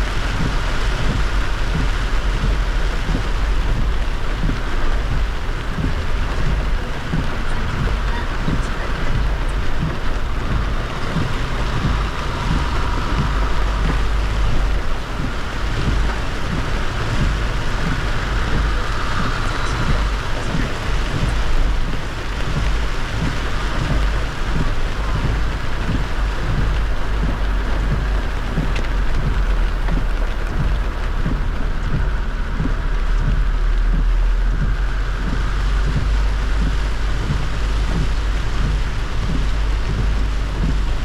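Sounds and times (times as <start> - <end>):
heavy rain on car: 0.0 - 41.0
tyre and road rumble: 0.0 - 41.0.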